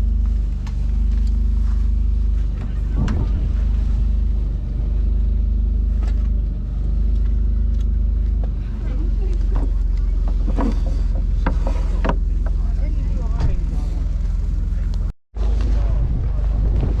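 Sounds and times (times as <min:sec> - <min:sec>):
low engine-like drone: 0:00.0 - 0:17.0.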